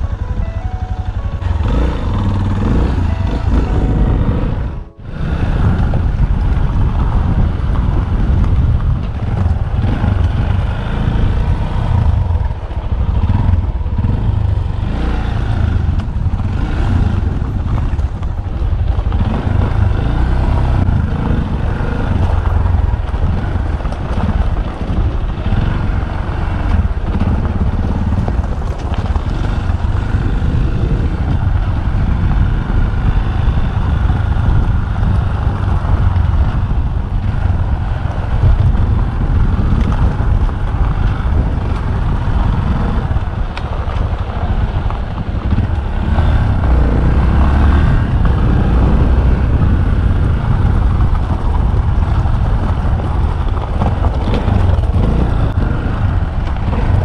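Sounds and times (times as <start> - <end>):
motorcycle engine running: 0.0 - 57.0
rumble on microphone: 0.0 - 57.0.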